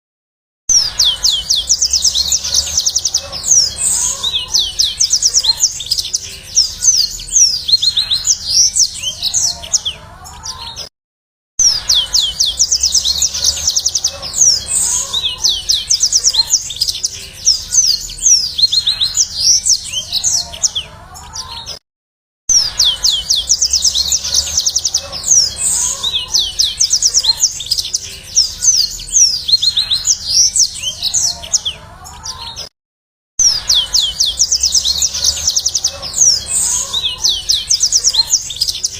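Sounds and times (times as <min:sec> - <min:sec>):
canary singing trills and chirps: 0:00.7 - 0:10.9, 0:11.6 - 0:21.8, 0:22.5 - 0:32.7, 0:33.4 - 0:38.9.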